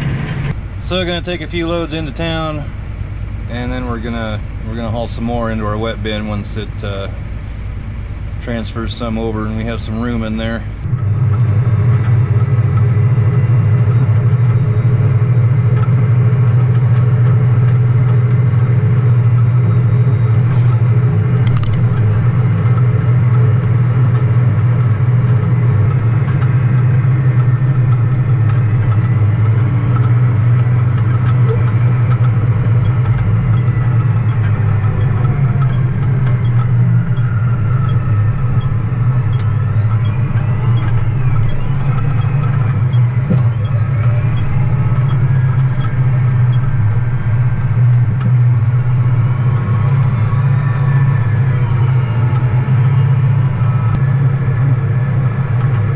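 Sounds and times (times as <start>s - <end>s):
vehicle engine droning: 0.0s - 55.9s.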